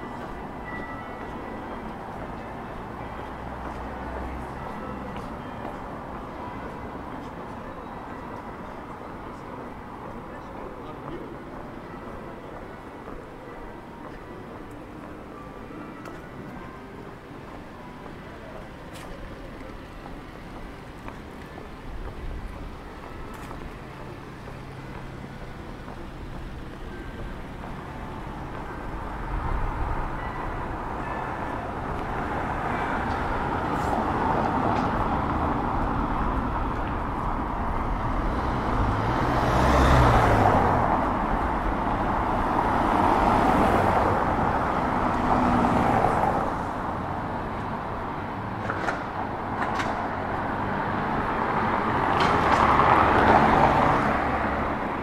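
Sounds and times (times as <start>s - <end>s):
cars passing: 0.0s - 55.0s
city background hum: 0.0s - 55.0s.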